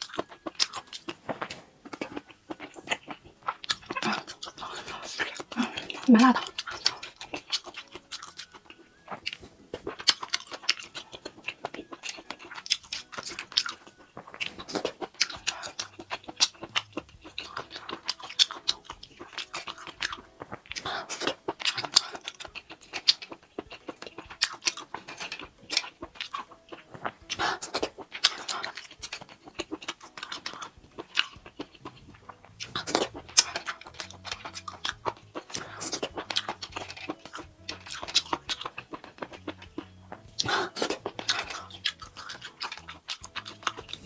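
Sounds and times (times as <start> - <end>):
person chewing wetly: 0.0 - 44.0.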